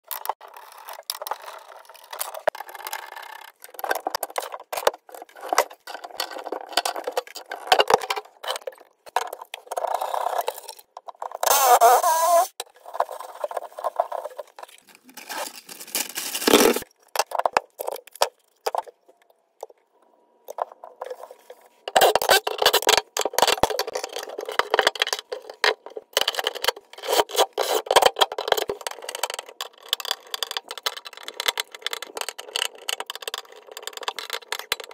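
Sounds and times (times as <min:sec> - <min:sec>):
tools and plastic fittings clattering: 0:00.1 - 0:19.8, 0:20.4 - 0:34.9.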